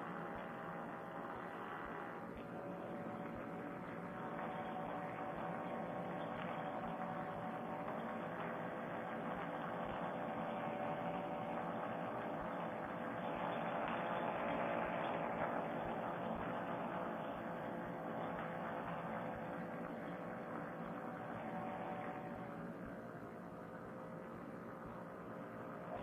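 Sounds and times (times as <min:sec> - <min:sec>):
paramotor engine drone: 0:00.0 - 0:26.0.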